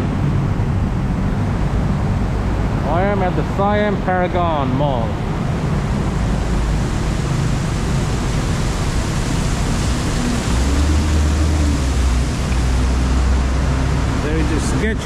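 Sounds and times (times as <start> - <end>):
city street traffic: 0.0 - 15.0
deep rumble: 0.0 - 15.0.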